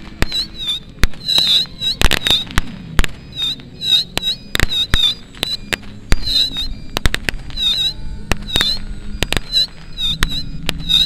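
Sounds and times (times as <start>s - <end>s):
firecracker bangs and pops: 0.0s - 11.0s
model aircraft engines droning: 0.0s - 11.0s
high chirping squeaks: 0.2s - 2.6s, 3.2s - 11.0s.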